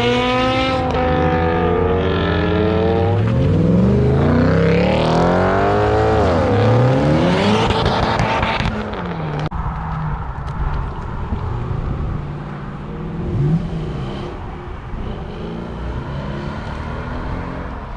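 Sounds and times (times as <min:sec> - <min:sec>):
car engine revving: 0:00.0 - 0:09.5, 0:11.1 - 0:17.9.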